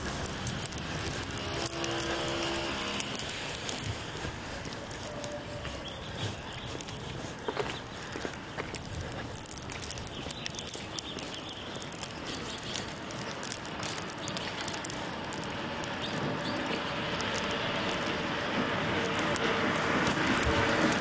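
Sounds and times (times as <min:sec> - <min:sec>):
car approaching: 0:00.0 - 0:21.0
light patter and ticking: 0:00.0 - 0:21.0.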